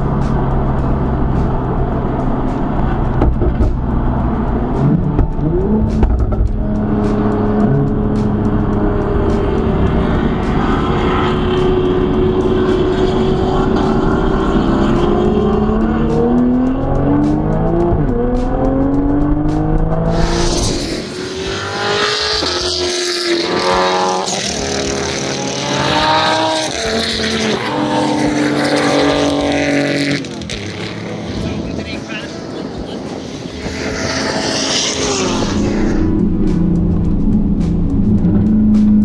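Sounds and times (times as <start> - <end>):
race cars accelerating on track: 0.0 - 39.0.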